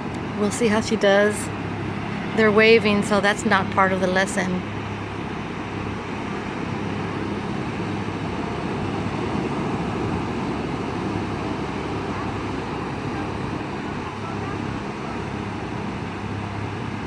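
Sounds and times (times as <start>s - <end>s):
low steady hum: 0.0s - 17.0s
ocean surf: 0.0s - 17.0s
wind: 0.0s - 17.0s.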